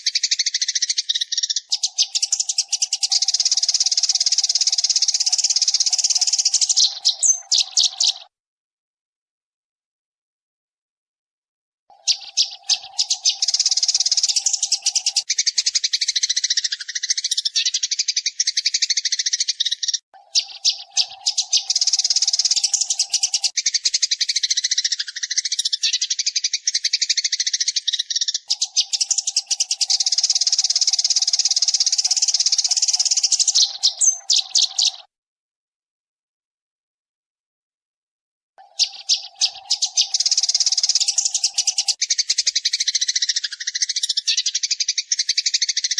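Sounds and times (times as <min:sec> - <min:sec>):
sparrows chirping rapidly: 0:00.0 - 0:08.3, 0:11.9 - 0:35.1, 0:38.6 - 0:45.9.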